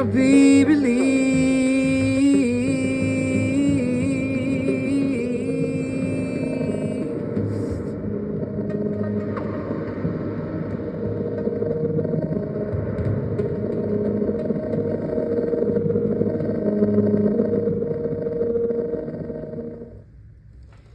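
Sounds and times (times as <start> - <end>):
modular synthesizer drone: 0.0 - 20.3.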